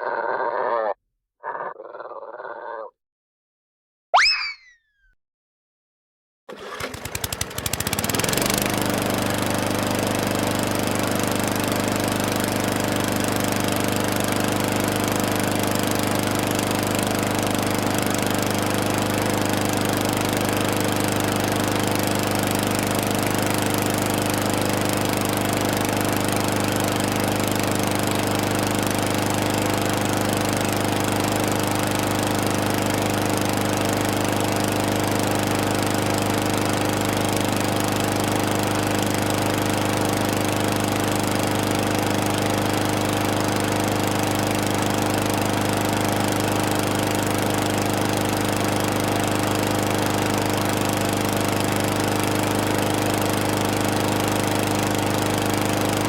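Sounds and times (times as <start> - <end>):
lawn mower engine running: 6.5 - 56.0.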